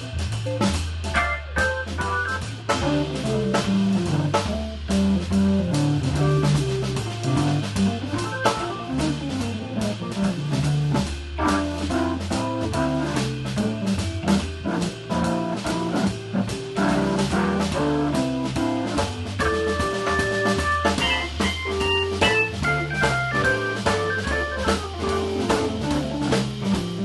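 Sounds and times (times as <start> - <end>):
drum kit with cymbals: 0.0 - 27.0
electric guitar: 0.0 - 27.0
organ bass line: 0.0 - 27.0.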